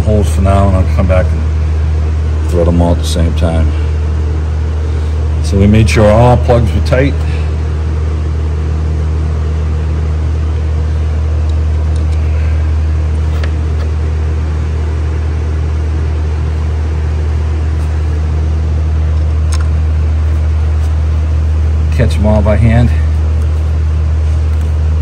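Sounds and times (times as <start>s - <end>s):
machine humming: 0.0s - 25.0s.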